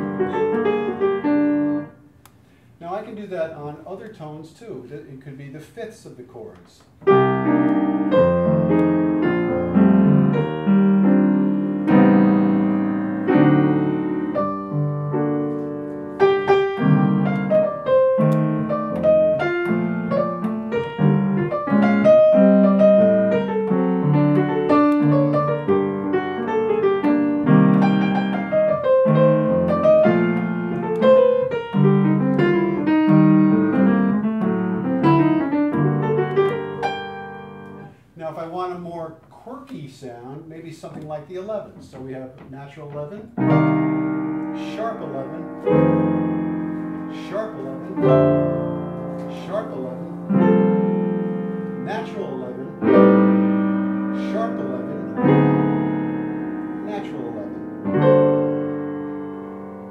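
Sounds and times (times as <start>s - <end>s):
solo jazz piano: 0.0s - 2.2s, 6.9s - 38.2s, 40.8s - 59.9s.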